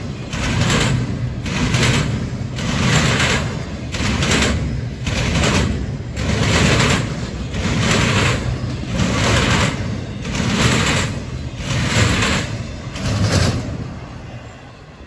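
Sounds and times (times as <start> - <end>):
freight train wheels rumbling: 0.0 - 15.0
rushing noise of passing cars: 0.0 - 15.0.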